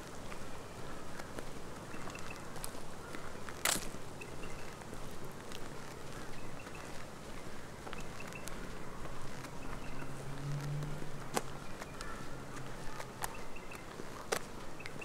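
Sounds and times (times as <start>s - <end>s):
birds chirping: 0.0s - 15.0s
footsteps crunching on dry track: 0.0s - 15.0s.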